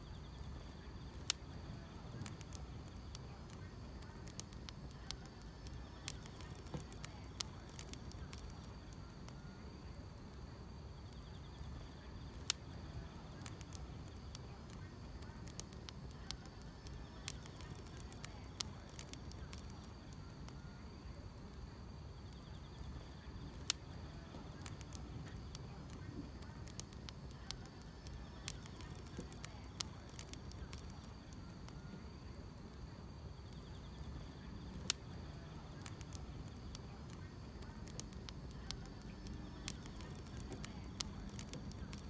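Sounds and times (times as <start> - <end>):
faint insects chirring: 0.0 - 42.0
wood fire crackling and popping: 0.0 - 42.0.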